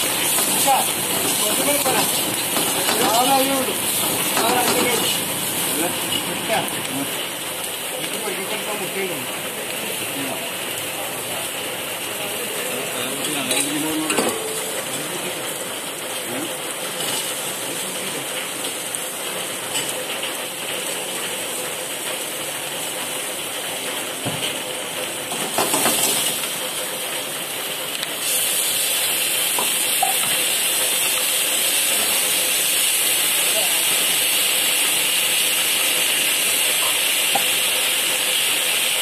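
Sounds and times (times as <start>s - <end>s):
chicken sizzling in wok: 0.0s - 39.0s.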